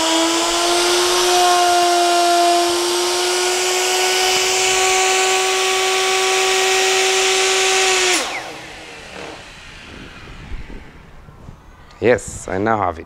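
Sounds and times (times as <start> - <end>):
router motor spinning down: 0.0 - 11.7
electric router whining: 0.0 - 12.0.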